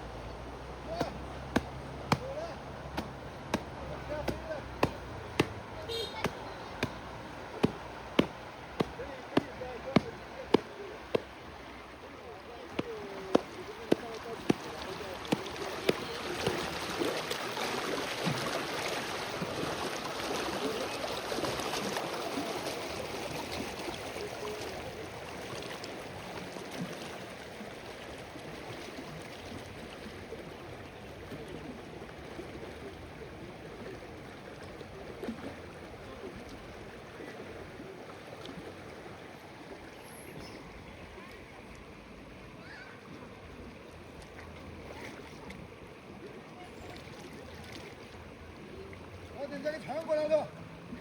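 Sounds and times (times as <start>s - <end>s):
running water babbling: 0.0s - 51.0s.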